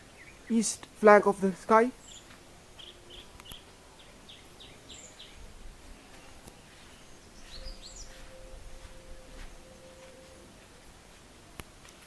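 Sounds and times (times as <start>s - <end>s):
garden birds chirping: 0.0s - 12.0s.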